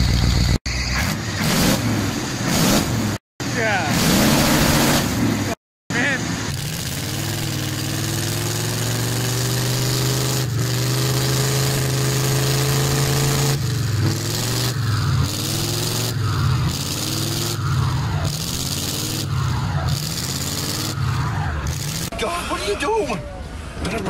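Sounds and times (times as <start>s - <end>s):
pickup engine revving: 0.1s - 22.1s.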